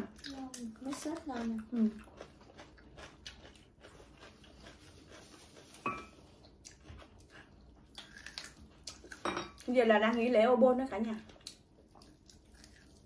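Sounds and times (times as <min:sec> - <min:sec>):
close-up chewing: 0:00.0 - 0:09.7, 0:11.2 - 0:13.0.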